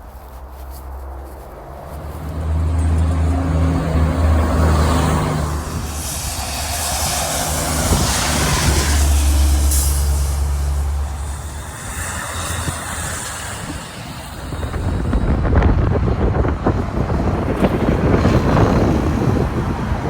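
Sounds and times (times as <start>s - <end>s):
heavy vehicle engine drone: 0.0s - 20.0s
tyre and air rush: 0.0s - 20.0s.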